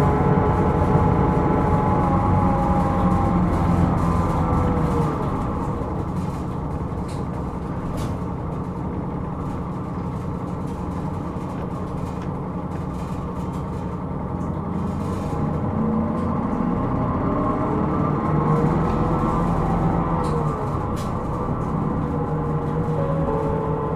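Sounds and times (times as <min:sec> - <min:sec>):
bus engine and road hum: 0:00.0 - 0:23.9.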